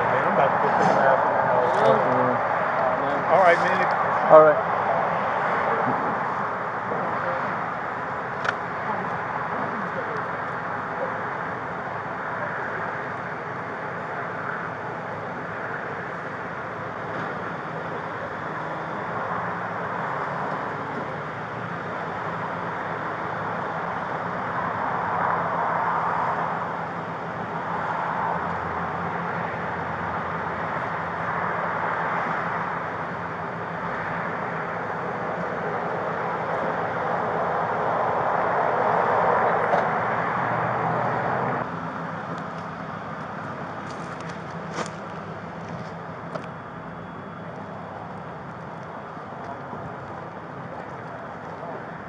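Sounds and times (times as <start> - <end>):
freeway traffic rushing: 0.0 - 52.0
low engine hum: 0.0 - 52.0.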